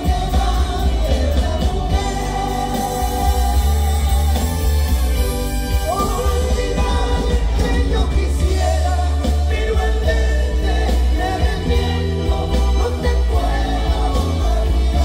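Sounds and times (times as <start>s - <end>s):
live band playing: 0.0s - 15.0s
man singing: 0.0s - 15.0s.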